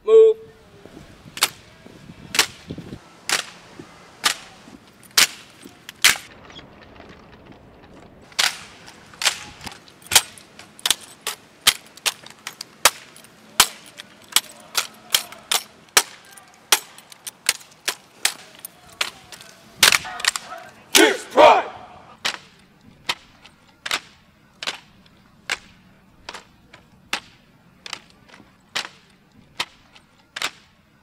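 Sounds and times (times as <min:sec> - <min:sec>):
hands slapping wooden rifles: 0:01.4 - 0:01.6, 0:02.3 - 0:06.3, 0:08.2 - 0:21.6, 0:22.2 - 0:30.8.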